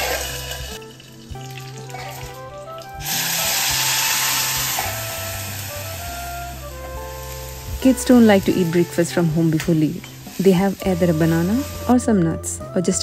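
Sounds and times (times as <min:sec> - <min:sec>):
batter sizzling in hot pan: 0:00.0 - 0:12.1
background music with steady beat: 0:00.0 - 0:13.0.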